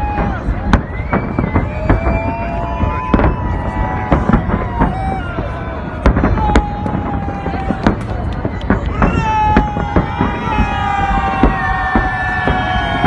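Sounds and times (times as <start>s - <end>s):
fireworks bangs: 0.0s - 13.0s
fireworks whistling: 0.0s - 13.0s.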